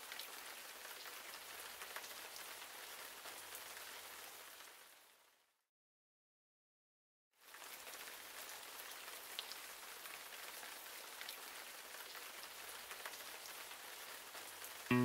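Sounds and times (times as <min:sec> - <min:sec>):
rain pattering: 0:00.0 - 0:05.4, 0:07.4 - 0:15.0.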